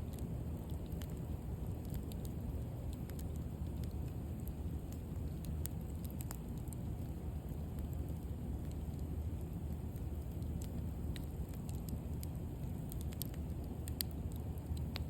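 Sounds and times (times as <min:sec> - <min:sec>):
bonfire crackling and popping: 0:00.0 - 0:15.0
low fire rumble: 0:00.0 - 0:15.0.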